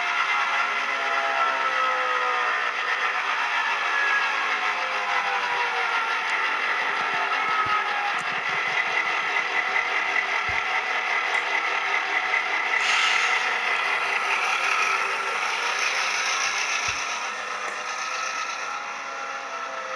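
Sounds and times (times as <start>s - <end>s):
model train whirring: 0.0s - 19.9s.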